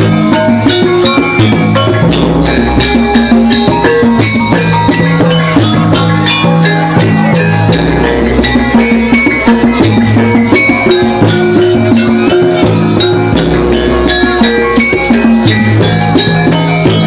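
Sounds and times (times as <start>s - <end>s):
drums: 0.0s - 17.0s
ringing tuned metal percussion: 0.0s - 17.0s.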